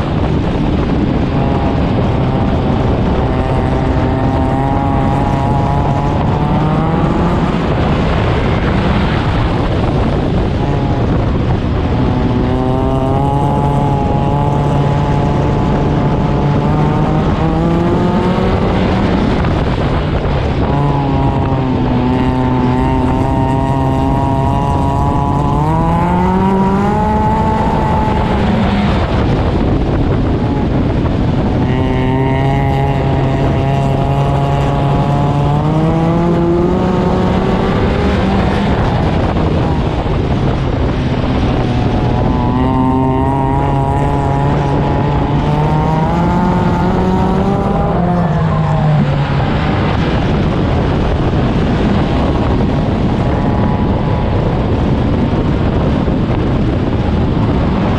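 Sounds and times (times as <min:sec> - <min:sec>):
race car engine accelerating: 0:00.0 - 0:57.9
wind and road noise: 0:00.0 - 0:57.9.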